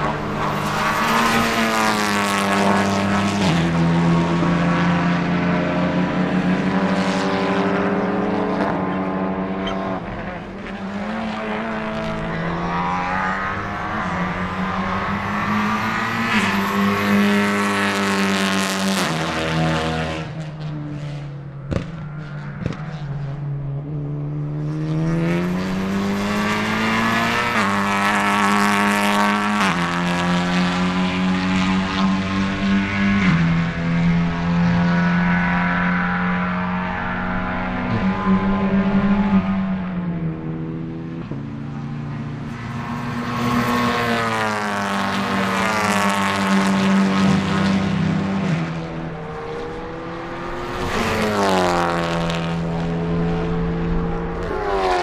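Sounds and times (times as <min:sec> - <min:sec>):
race car engines accelerating: 0:00.0 - 0:55.0.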